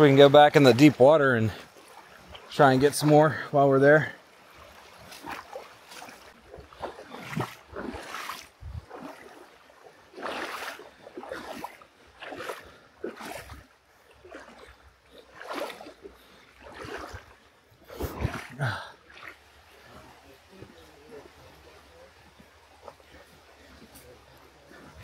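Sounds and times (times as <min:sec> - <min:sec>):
footsteps splashing in creek: 0:00.0 - 0:25.0.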